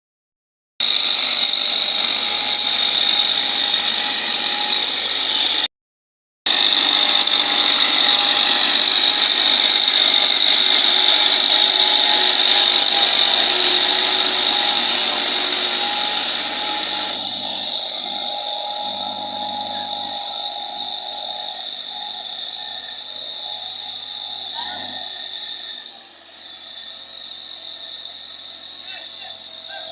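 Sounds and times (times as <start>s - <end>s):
metallic rattle and whine of machinery: 0.8s - 5.7s, 6.5s - 29.9s
tractor engine running: 0.8s - 5.7s, 6.5s - 29.9s.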